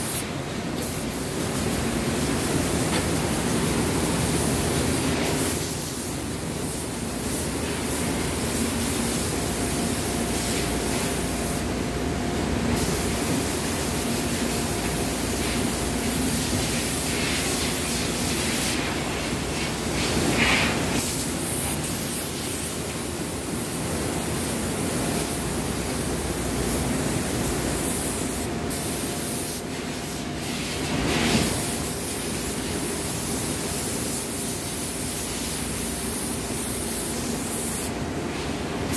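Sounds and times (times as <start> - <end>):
spray guns hissing: 0.0 - 11.8, 12.6 - 37.9.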